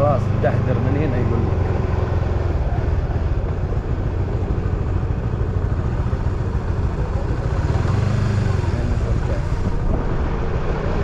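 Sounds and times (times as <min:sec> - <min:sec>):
small motorcycle engine running: 0:00.2 - 0:11.0.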